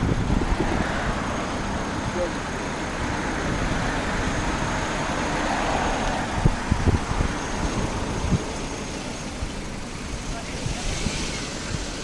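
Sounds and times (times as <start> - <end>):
car engine running: 0.0 - 12.0
street traffic: 0.0 - 12.0.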